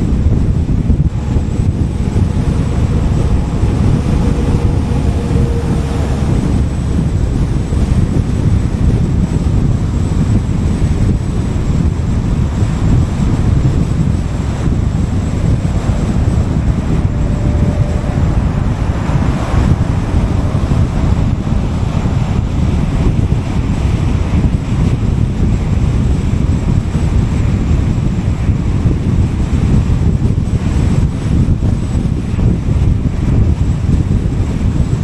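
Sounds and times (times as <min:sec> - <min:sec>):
car road noise rumble: 0:00.0 - 0:35.0
wind buffeting microphone: 0:00.0 - 0:35.0.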